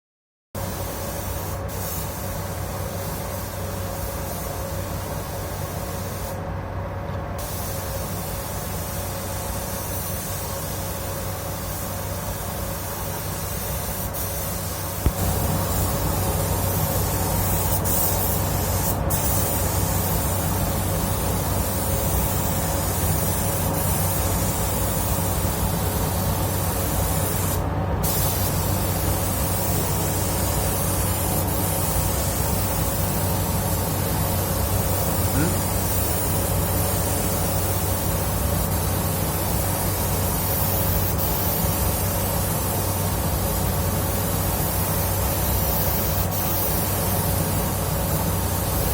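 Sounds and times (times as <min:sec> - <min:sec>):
paint spray gun hissing: 0:00.6 - 0:06.4, 0:07.4 - 0:48.9.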